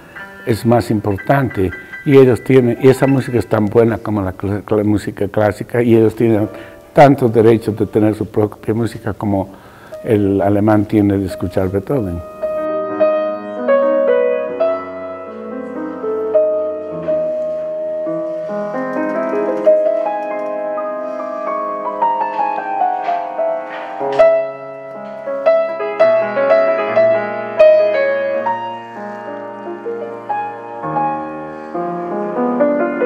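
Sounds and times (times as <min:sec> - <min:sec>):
solo classical piano: 0:00.0 - 0:33.0.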